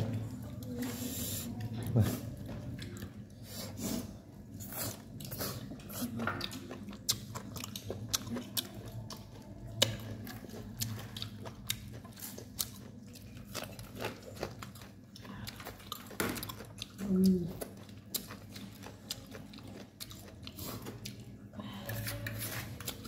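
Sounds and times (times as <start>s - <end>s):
people chewing meat: 0.0s - 23.0s.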